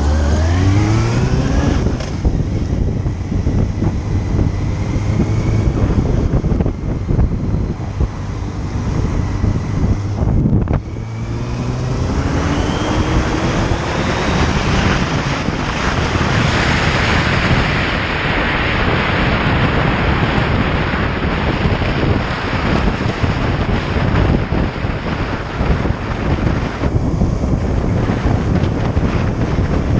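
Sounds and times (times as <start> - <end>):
motorcycle engine accelerating: 0.0 - 29.9
wind rush on microphone: 0.0 - 29.9.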